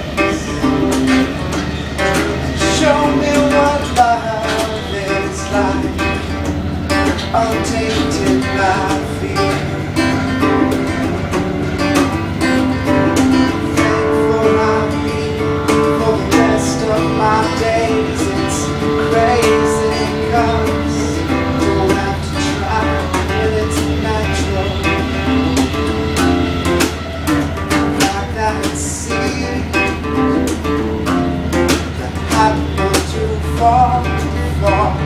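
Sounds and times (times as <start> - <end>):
man singing: 0.0 - 10.9, 11.9 - 26.6, 27.7 - 30.6, 31.7 - 35.0
acoustic guitar strumming: 0.0 - 35.0.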